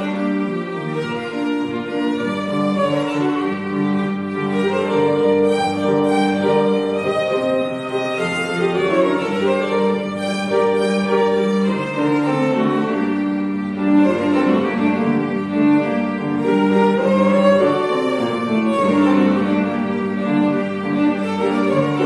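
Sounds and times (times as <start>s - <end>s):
piano accompaniment: 0.0s - 22.0s
violin melody: 0.0s - 22.0s.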